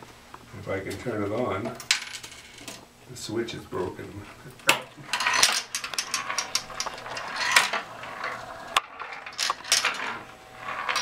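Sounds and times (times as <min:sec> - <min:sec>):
steel balls rolling and rattling: 0:00.9 - 0:02.9, 0:03.8 - 0:11.0.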